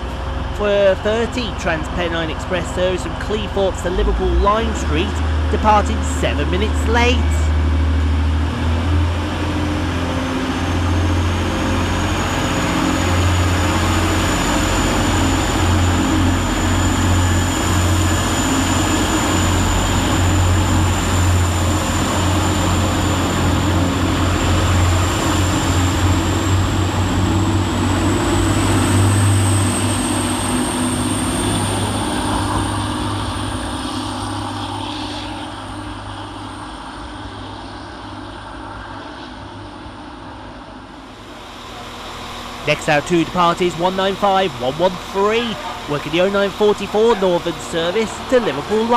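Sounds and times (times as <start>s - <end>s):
high whine rising in pitch: 0.0s - 48.9s
train engines droning: 0.0s - 48.9s.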